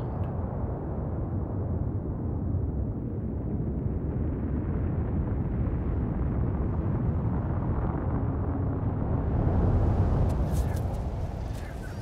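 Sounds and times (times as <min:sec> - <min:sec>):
volcano rumbling: 0:00.0 - 0:12.0.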